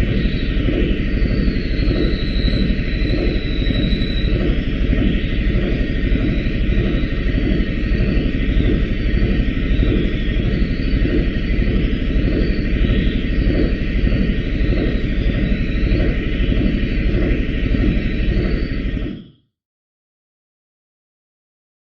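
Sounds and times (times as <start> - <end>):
machine rumbling: 0.0 - 19.4.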